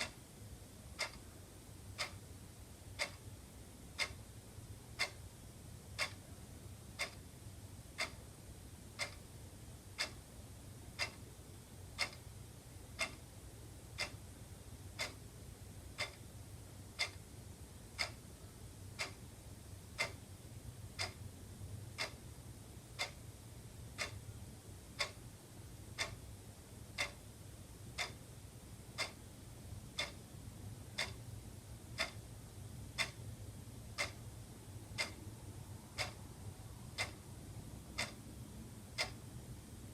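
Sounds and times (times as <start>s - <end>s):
wall clock ticking: 0.0s - 21.3s, 21.9s - 39.5s
faint low hum: 0.0s - 39.9s.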